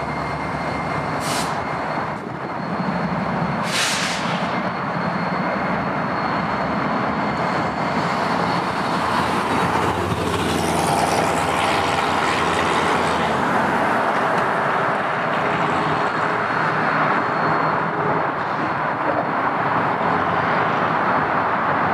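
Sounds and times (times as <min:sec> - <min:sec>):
diesel locomotives running: 0:00.0 - 0:21.9
road traffic noise: 0:00.0 - 0:21.9.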